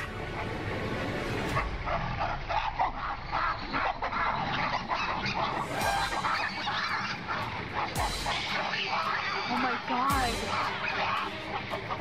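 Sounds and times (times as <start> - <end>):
animals yelping and barking: 1.4 - 12.0.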